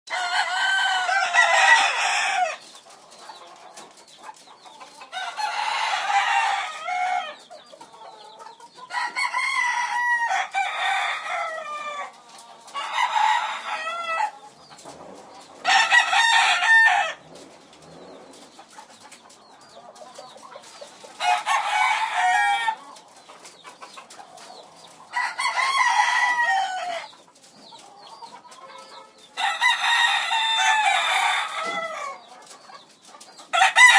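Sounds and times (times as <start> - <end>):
chickens calling: 0.1 - 33.9.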